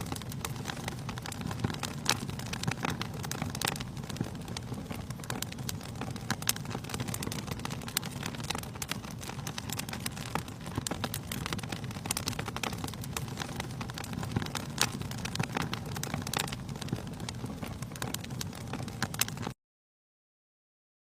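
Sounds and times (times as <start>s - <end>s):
fire crackling and popping: 0.0s - 19.6s
low steady fire rumble: 0.0s - 19.6s.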